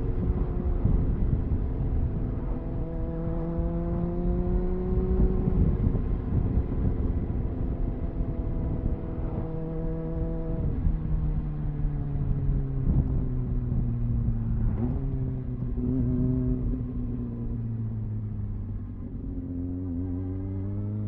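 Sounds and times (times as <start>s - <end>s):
wind rush on microphone: 0.0s - 20.0s
motorcycle engine riding: 0.0s - 21.0s.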